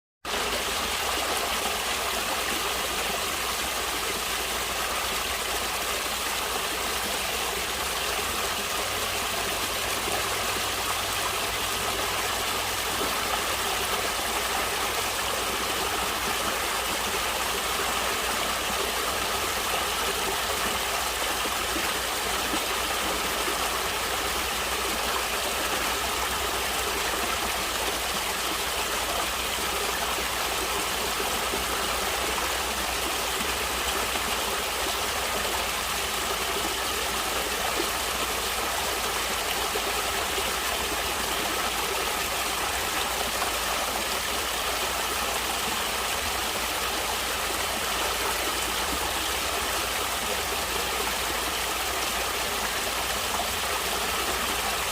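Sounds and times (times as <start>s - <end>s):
stream flowing: 0.2s - 54.9s.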